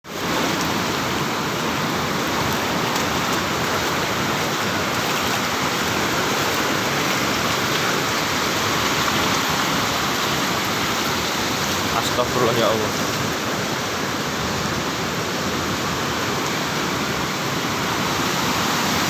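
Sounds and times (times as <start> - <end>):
waves breaking: 0.1 - 19.0.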